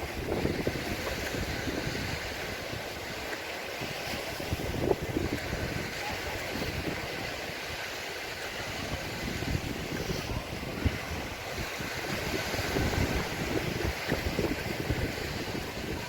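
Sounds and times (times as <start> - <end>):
sea surf washing onto beach: 0.0 - 16.0
wind rumbling on microphone: 0.0 - 16.0.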